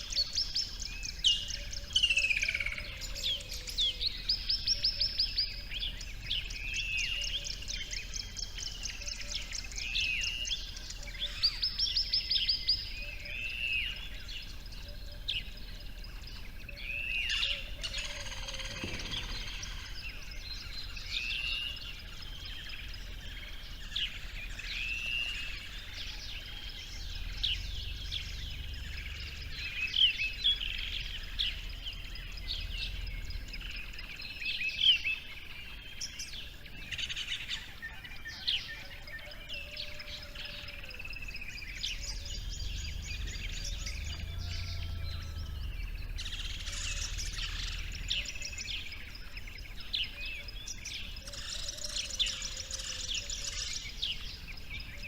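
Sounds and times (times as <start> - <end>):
birds calling and chirping: 0.0 - 55.0
outdoor ambience: 0.0 - 55.0.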